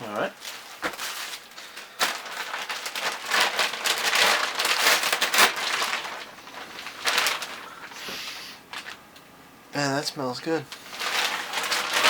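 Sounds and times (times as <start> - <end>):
plastic packaging crinkling: 0.0 - 9.0, 10.4 - 12.0.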